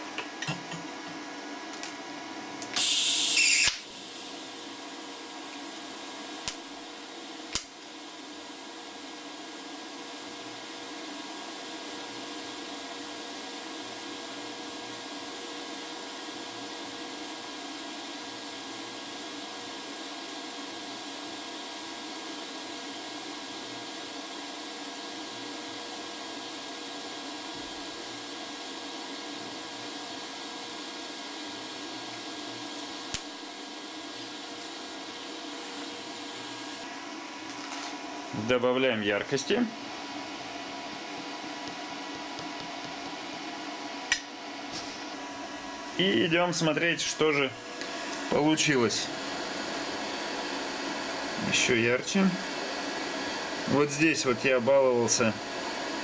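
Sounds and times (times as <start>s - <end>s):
welding arc hiss and hum: 0.0s - 56.0s.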